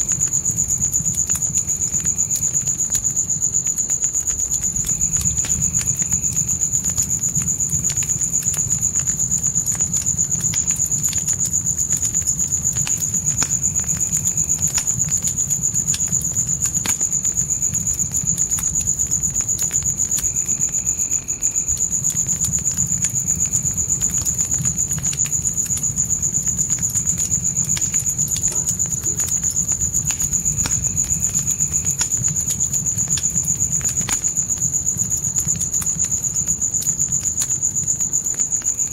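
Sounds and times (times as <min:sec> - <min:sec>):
crickets chirping: 0:00.0 - 0:38.9
fire crackling and popping: 0:00.0 - 0:38.9.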